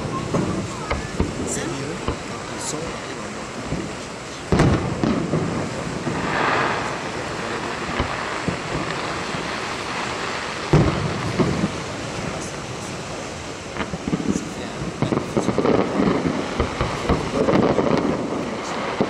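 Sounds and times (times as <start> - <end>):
soft firework thuds: 0.0 - 2.4, 3.6 - 9.6, 10.2 - 12.6, 13.8 - 19.0
fireworks booming: 0.0 - 19.0
steady background hiss: 0.0 - 19.0.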